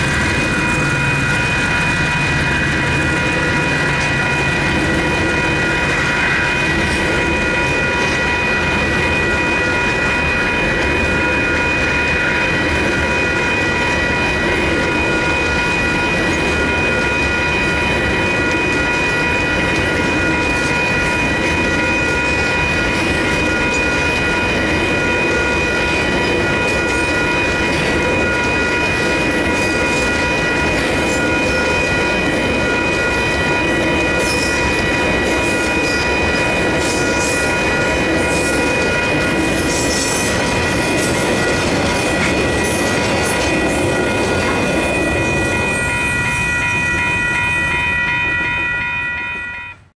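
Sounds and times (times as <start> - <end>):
train wheels clattering on rails: 0.0 - 49.3
high ringing tones: 0.0 - 49.9.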